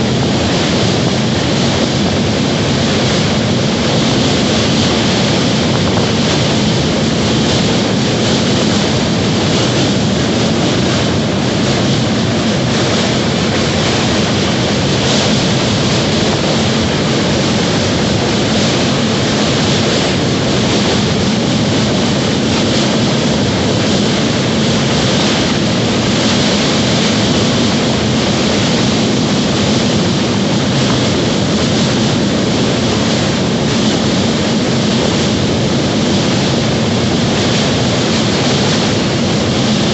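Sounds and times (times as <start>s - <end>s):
train rushing rumble: 0.0s - 39.9s.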